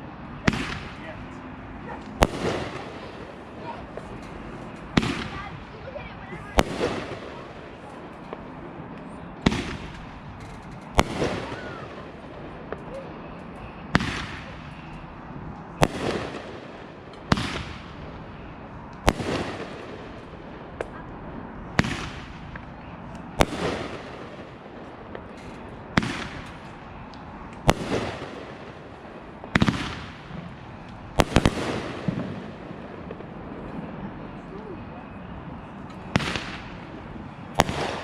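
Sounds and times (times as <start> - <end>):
firework bangs: 0.0 - 38.0.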